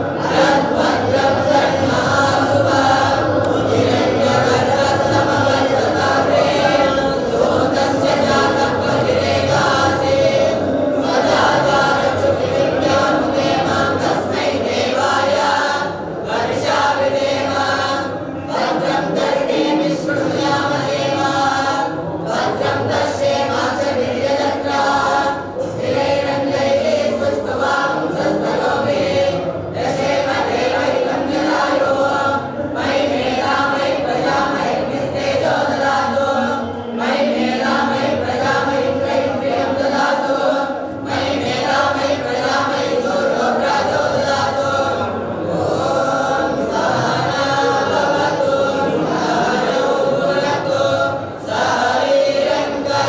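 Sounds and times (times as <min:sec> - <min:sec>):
young men chanting prayers in unison: 0:00.0 - 0:53.0.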